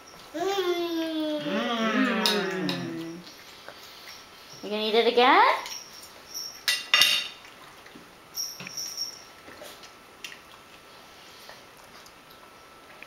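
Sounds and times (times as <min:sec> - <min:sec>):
toddler chewing with wet mouth noises: 0:00.0 - 0:06.7, 0:07.3 - 0:13.0.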